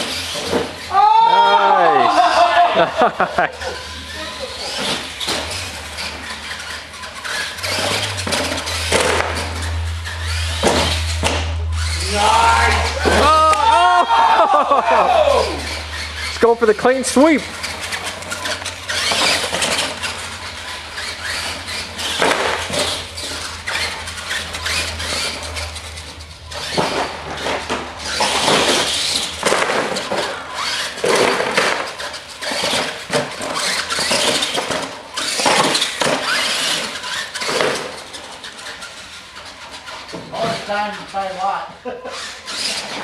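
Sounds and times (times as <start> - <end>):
toy truck motors running: 0.0 - 43.0
toy truck tyres squealing on concrete: 0.0 - 43.0.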